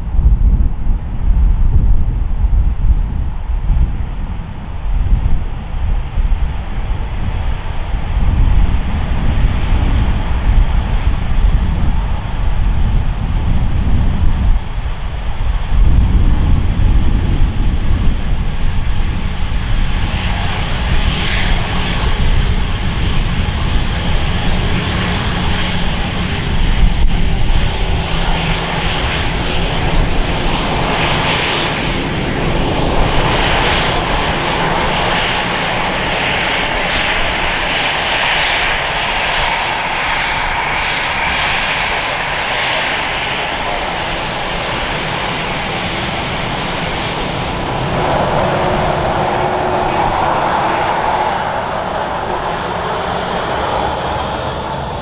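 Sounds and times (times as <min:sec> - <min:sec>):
jet engines rumble and whine: 0:00.0 - 0:55.0.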